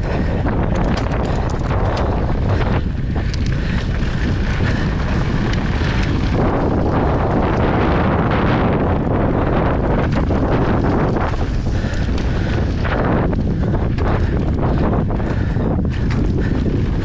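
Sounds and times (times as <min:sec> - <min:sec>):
bike rattles and knocks: 0:00.0 - 0:17.0
tyre roar on dirt: 0:00.0 - 0:17.0
wind buffeting microphone: 0:00.0 - 0:17.0.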